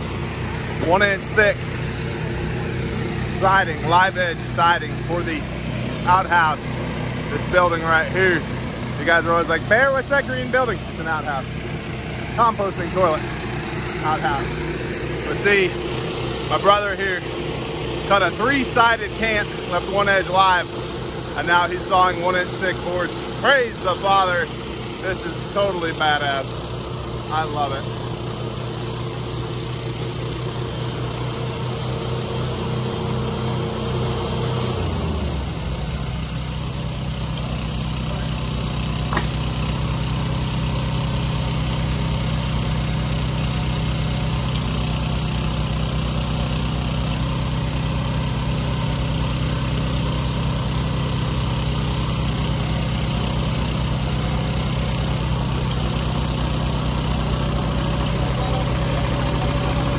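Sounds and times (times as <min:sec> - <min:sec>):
sawmill engine running and idling: 0:00.0 - 0:59.9.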